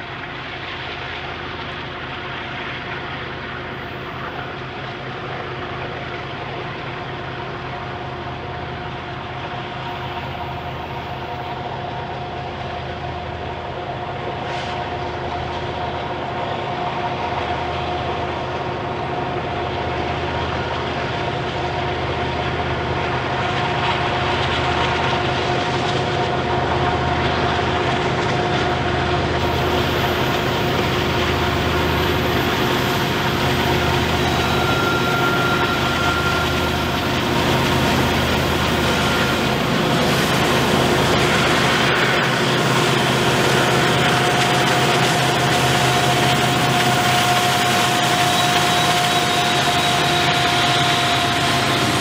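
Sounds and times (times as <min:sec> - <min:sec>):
diesel locomotives rumbling: 0:00.0 - 0:52.0.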